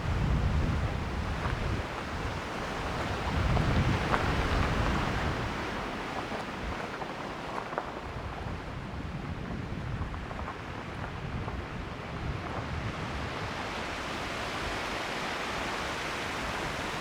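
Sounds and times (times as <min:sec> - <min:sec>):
wind gusting across microphone: 0:00.0 - 0:17.0.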